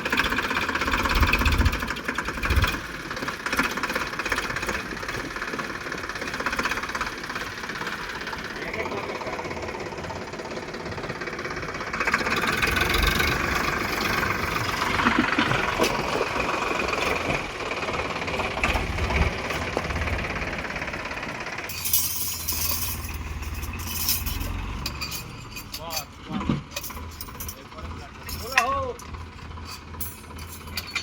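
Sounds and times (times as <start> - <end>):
rattle: 0.0 - 31.0
tractor diesel engine chugging: 0.0 - 31.0.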